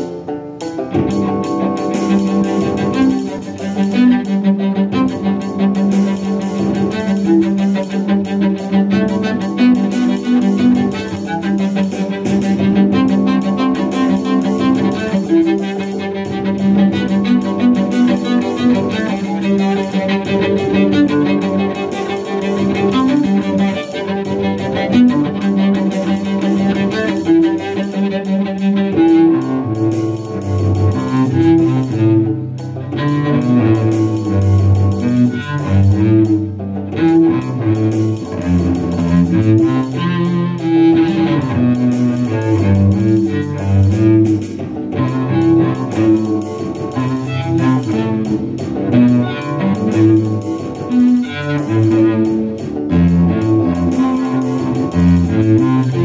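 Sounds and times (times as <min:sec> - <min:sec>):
bowed cello: 0:00.0 - 0:56.0
busy hi-hats: 0:00.0 - 0:56.0
repeated guitar pattern: 0:00.0 - 0:56.0
snare and bass beat: 0:00.0 - 0:56.0.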